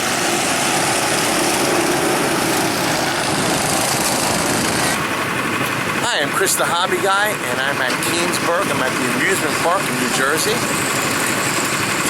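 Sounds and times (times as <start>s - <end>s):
small go-kart engines droning: 0.0s - 12.0s.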